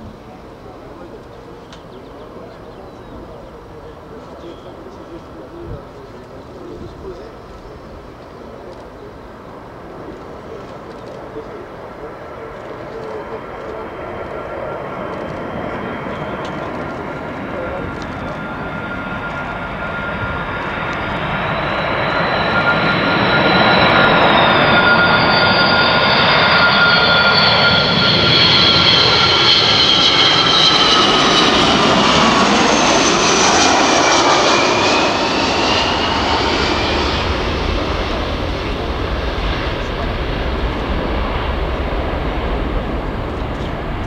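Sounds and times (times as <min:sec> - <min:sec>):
jet aircraft flypast with whine: 0:00.0 - 0:44.0.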